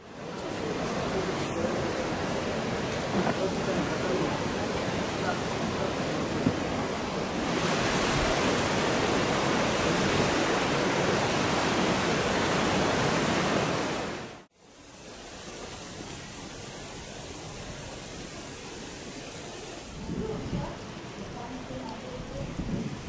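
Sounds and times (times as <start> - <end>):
steady rushing outdoor noise: 0.0 - 23.0.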